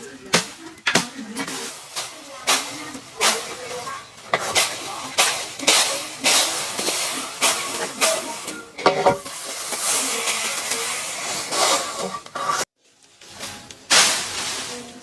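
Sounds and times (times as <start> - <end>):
dry rice stalks rustling: 0.0 - 15.0.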